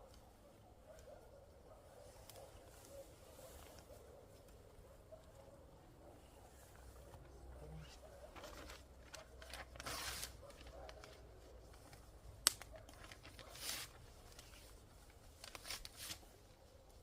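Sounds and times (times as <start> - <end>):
rustling handling noises: 0.0 - 17.0.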